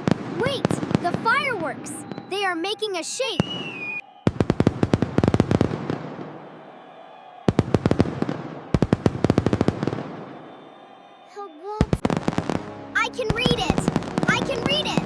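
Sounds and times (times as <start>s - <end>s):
fireworks crackling bangs: 0.0s - 2.5s, 3.4s - 6.8s, 7.5s - 10.6s, 11.8s - 15.0s.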